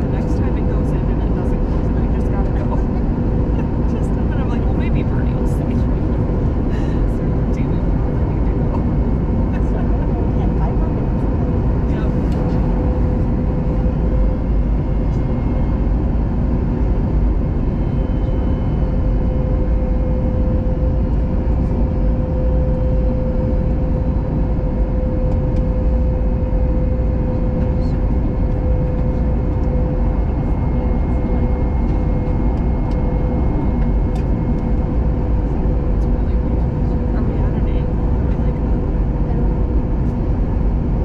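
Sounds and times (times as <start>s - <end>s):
jet engines rumbling: 0.0s - 41.0s
steady hum: 0.0s - 41.0s.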